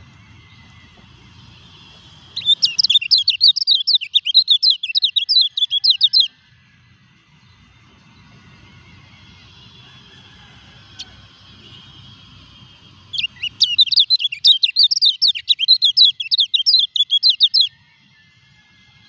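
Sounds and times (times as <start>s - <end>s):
bird singing twittering song: 0.0s - 18.7s.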